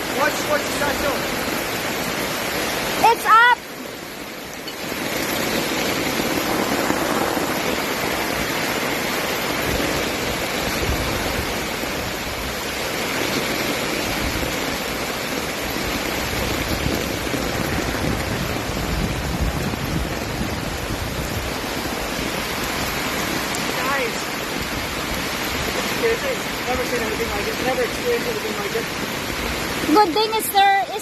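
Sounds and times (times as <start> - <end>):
flowing floodwater: 0.0 - 31.0
heavy rain: 0.0 - 31.0.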